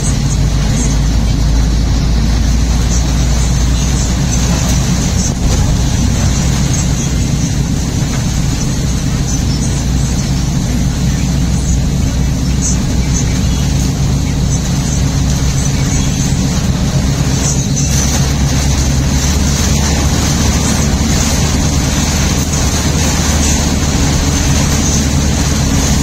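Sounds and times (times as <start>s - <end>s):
car interior road rumble: 0.0s - 26.0s
rain: 0.0s - 26.0s
wet tyres hissing: 0.0s - 26.0s.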